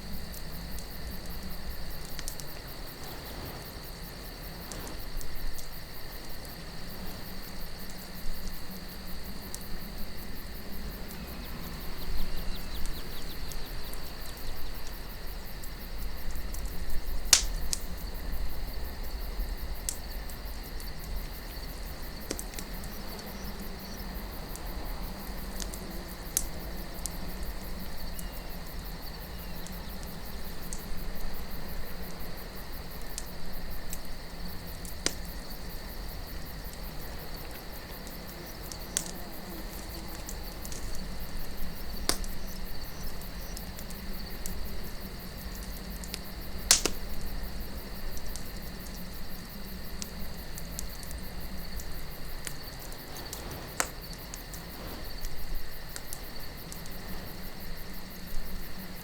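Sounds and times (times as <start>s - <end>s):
campfire crackling: 0.0s - 59.0s
crickets chirring: 0.0s - 59.0s
wind rumble: 0.0s - 59.0s.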